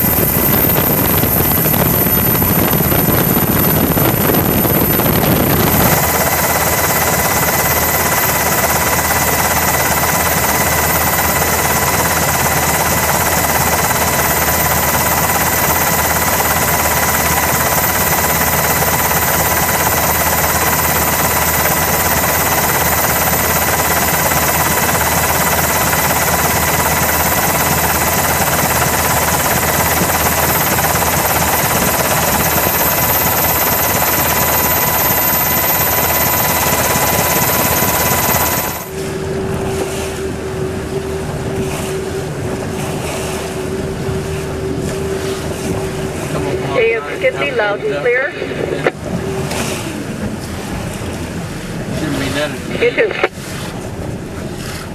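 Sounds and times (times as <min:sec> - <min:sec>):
high steady whine: 0:00.0 - 0:42.6, 0:43.6 - 0:49.4, 0:52.0 - 0:53.4
helicopter rotor and engine drone: 0:00.0 - 0:54.9.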